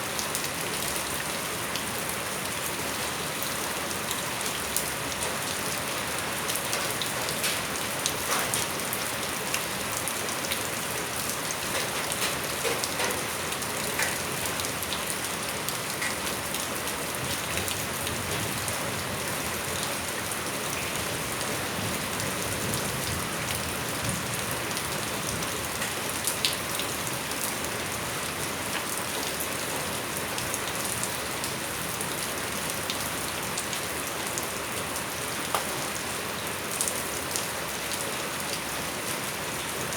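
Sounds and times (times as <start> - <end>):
raindrops ticking and splashing: 0.0 - 39.9
steady rain falling: 0.0 - 39.9.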